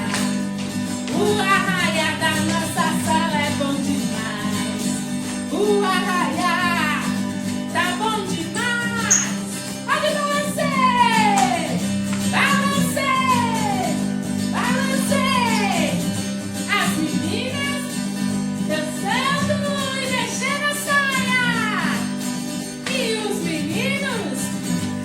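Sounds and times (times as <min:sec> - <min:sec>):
festive folk music accompaniment: 0:00.0 - 0:25.0.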